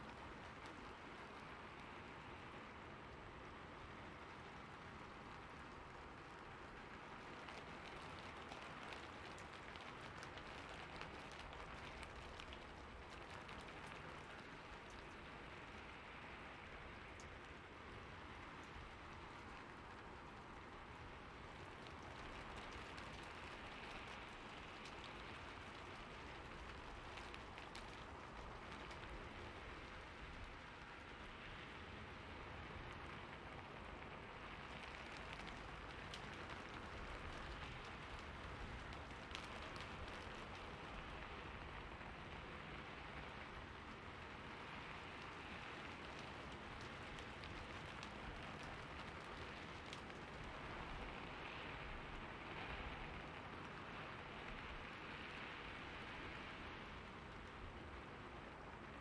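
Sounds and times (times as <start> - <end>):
continuous hiss of rain: 0.0 - 59.0
raindrops ticking on a surface: 0.0 - 59.0.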